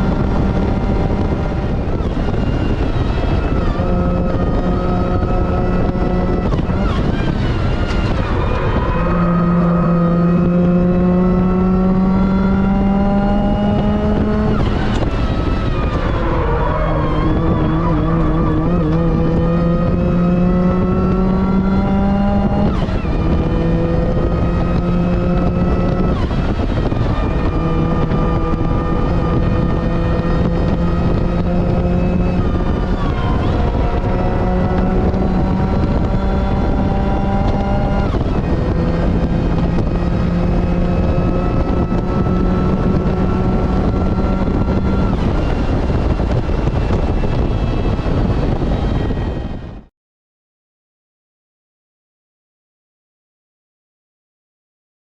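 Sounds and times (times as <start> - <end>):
car engine under hard load: 0.0 - 49.9.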